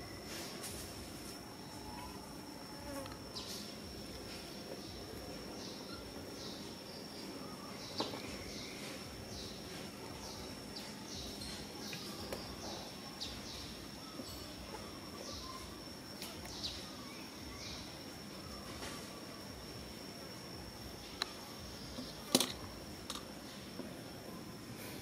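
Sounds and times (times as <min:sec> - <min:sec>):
high-pitched insect drone: 0:00.0 - 0:25.0.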